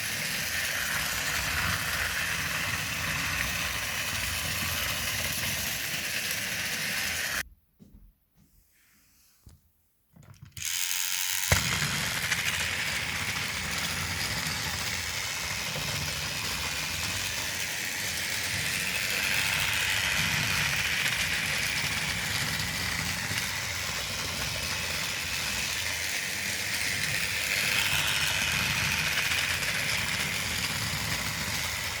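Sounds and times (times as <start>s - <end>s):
toy train cars rattling: 0.0s - 7.4s, 10.5s - 32.0s
toy train motor whirring: 0.0s - 7.4s, 10.5s - 32.0s.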